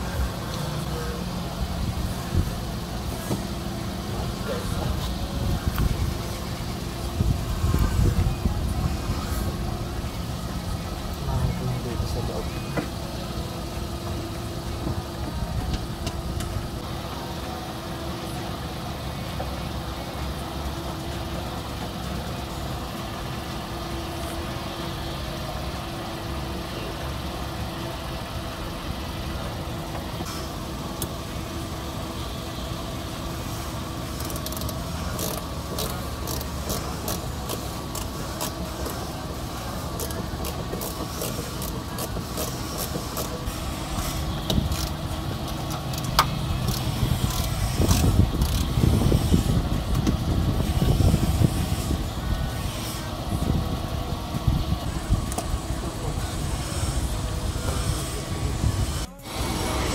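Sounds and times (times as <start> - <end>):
engine idling hum: 0.0 - 59.9.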